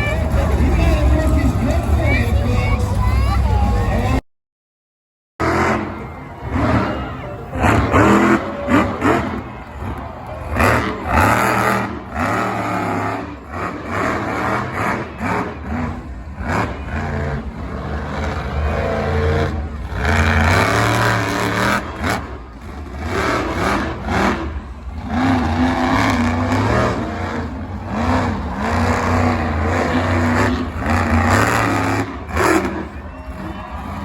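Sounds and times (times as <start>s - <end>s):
monster truck engine revving: 0.0s - 4.2s, 5.4s - 34.0s.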